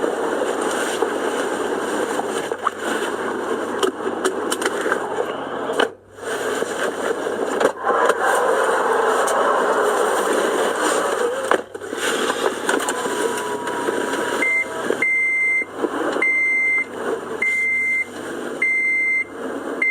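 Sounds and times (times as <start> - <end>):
car road noise: 0.0 - 19.9.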